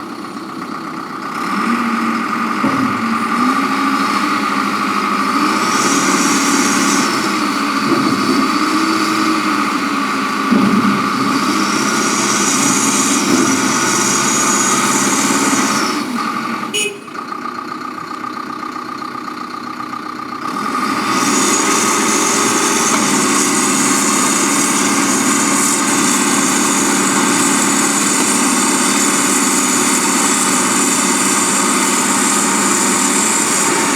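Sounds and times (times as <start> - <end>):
backhoe engine running: 0.0 - 33.9.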